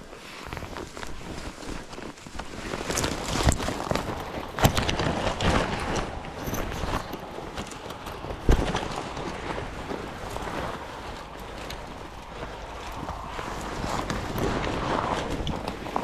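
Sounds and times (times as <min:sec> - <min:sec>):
twigs snapping underfoot: 0:00.0 - 0:16.0.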